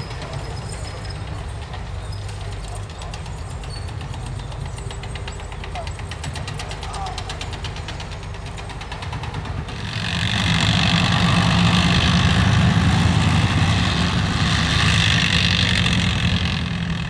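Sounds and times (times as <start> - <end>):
tracked vehicle engine and tracks: 0.0 - 17.0.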